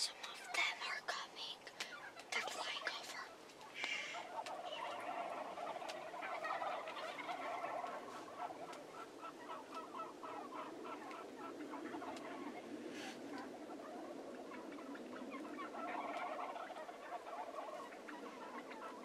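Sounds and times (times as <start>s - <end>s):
turkeys clucking: 0.0s - 1.0s, 1.6s - 19.0s.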